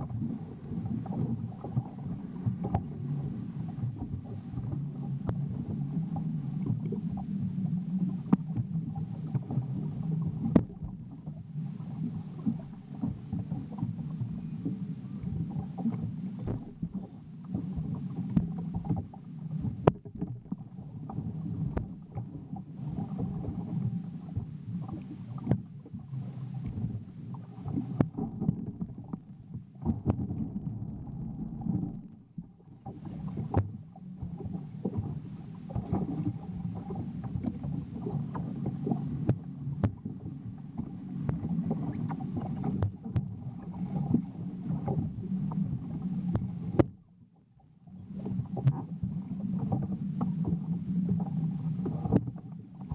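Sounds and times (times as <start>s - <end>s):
hull thumping on rough water: 0.0s - 52.9s.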